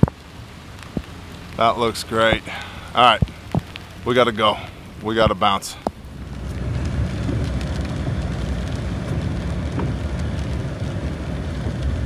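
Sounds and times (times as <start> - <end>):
rain on windshield: 0.0 - 12.0
truck driving on wet road: 0.0 - 12.0.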